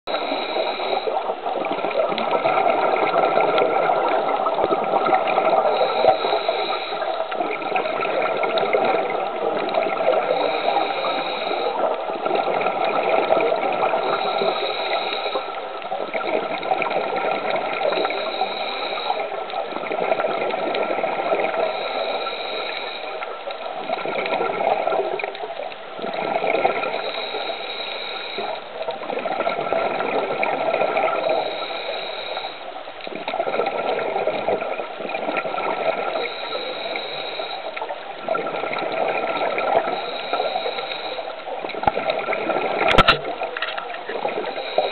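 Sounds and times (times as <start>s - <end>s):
regulator breathing underwater: 0.1s - 2.0s, 2.7s - 20.0s, 20.8s - 23.4s, 26.2s - 32.7s, 35.6s - 37.9s, 38.5s - 44.9s
exhaled bubbles underwater: 0.1s - 44.9s.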